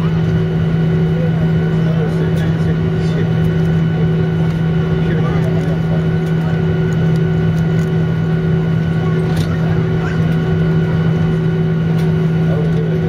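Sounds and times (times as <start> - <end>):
jet engine hum: 0.0 - 13.0.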